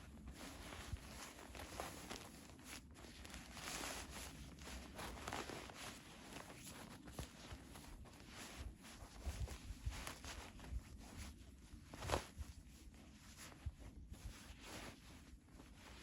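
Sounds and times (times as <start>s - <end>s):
soft shuffling footsteps: 0.0s - 16.0s.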